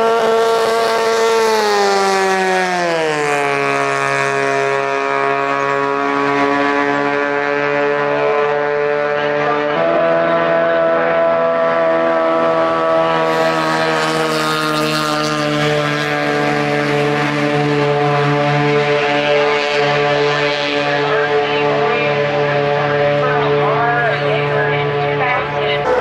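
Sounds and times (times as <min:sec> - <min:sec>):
outboard engines droning: 0:00.0 - 0:26.0.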